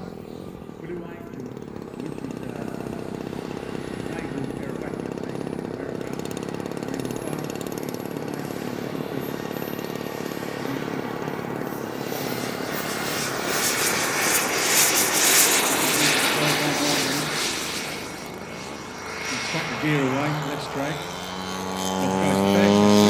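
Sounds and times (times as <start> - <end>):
low engine hum: 0.0 - 23.0
model jet engine whine and rush: 0.0 - 23.0.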